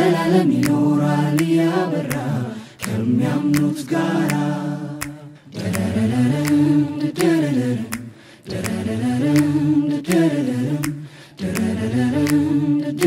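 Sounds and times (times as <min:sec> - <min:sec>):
vocal group humming harmony: 0:00.0 - 0:13.0
beat of sharp clicks: 0:00.5 - 0:13.0.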